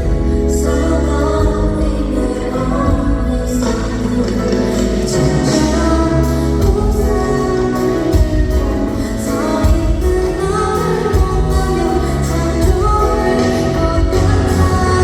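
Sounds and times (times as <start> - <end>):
band with heavy bass: 0.0 - 15.0
woman singing pop song: 0.0 - 15.0.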